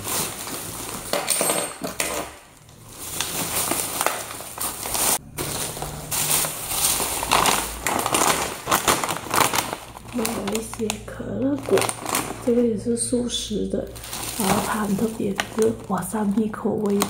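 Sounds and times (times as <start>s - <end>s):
plastic bags rustling and crinkling: 0.0s - 17.0s.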